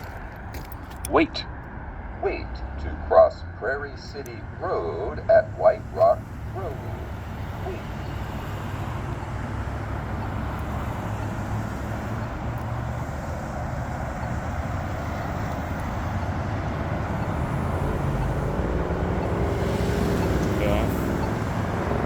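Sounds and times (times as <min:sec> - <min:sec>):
passing vehicles rumble: 0:00.0 - 0:22.0
vehicle engine approaching: 0:00.0 - 0:22.0.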